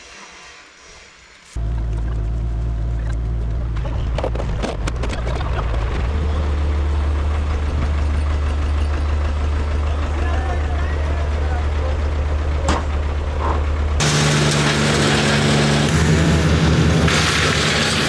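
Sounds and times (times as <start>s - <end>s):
heavy engine running: 1.6s - 18.0s.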